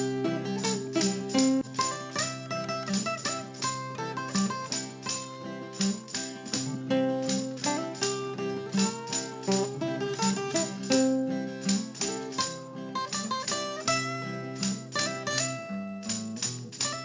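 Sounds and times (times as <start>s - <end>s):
plucked acoustic guitar melody: 0.0s - 17.0s.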